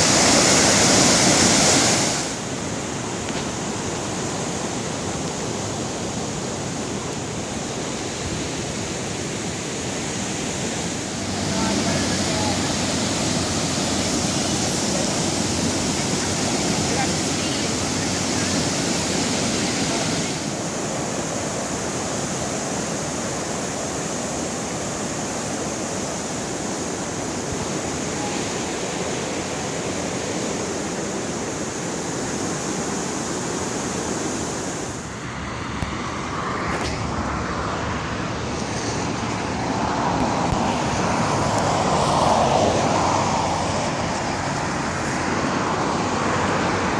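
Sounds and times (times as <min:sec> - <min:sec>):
creek rushing: 0:00.0 - 0:46.9.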